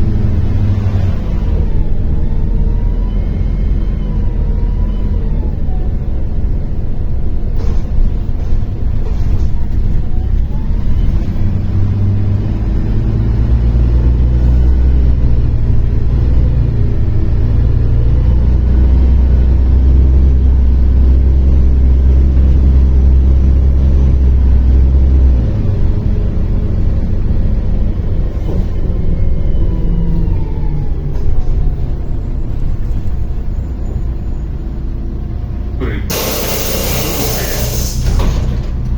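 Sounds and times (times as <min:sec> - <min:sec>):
bus diesel engine droning: 0:00.0 - 0:38.9
road noise: 0:00.0 - 0:38.9.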